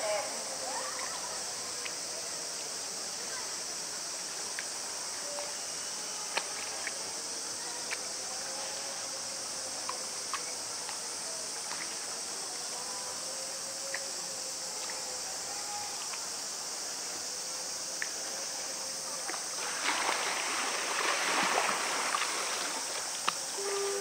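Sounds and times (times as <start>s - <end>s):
cicada chorus drone: 0.0s - 24.0s.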